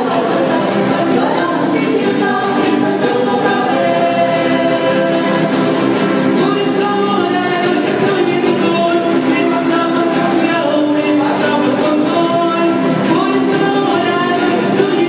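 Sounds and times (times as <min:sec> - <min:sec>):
song with voices singing together: 0:00.0 - 0:15.0.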